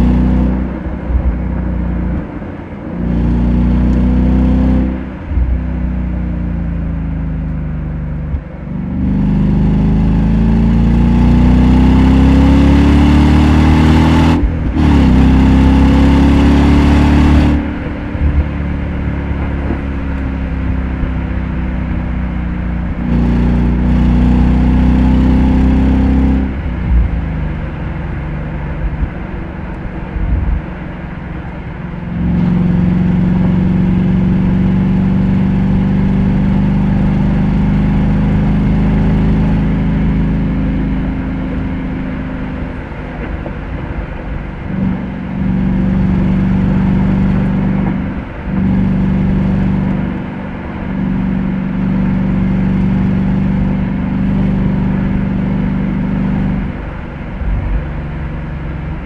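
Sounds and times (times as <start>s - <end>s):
car engine accelerating through gears: 0.0s - 59.0s.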